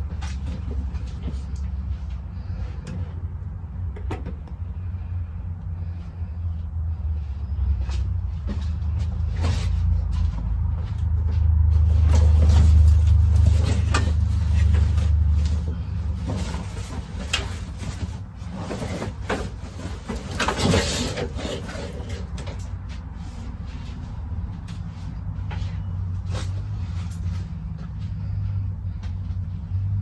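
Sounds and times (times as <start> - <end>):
knocks clunks and scraping: 0.0 - 30.0.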